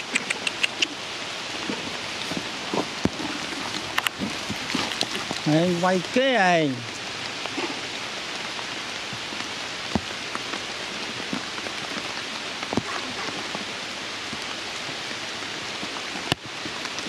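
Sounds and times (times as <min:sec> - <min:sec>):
rain on stone and leaves: 0:00.0 - 0:17.0.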